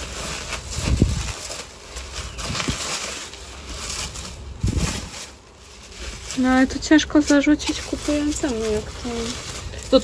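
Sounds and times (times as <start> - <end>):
plastic and bubble wrap rustling: 0.0 - 10.0.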